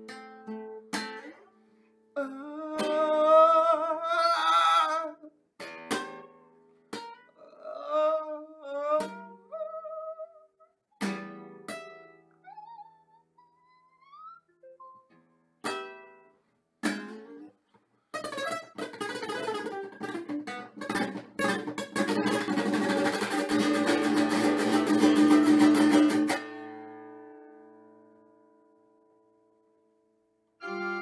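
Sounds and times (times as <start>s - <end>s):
classical guitar strumming: 0.0s - 7.5s, 8.8s - 10.4s, 11.0s - 13.3s, 14.5s - 29.8s, 30.6s - 31.0s.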